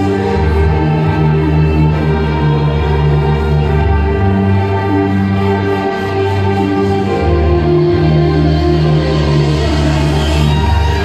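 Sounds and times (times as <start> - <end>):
dance music with held notes: 0.0 - 11.0
deep bass: 0.0 - 11.0.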